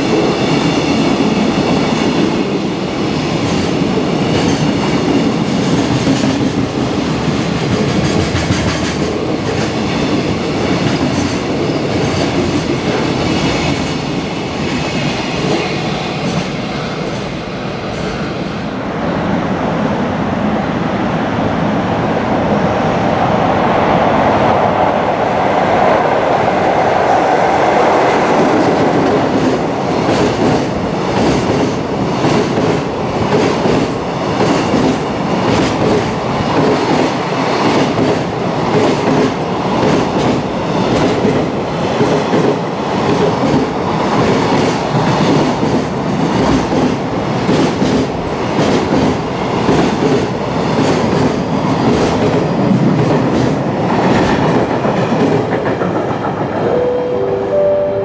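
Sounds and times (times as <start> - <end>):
train wheels rushing: 0.0 - 18.7, 24.0 - 56.8.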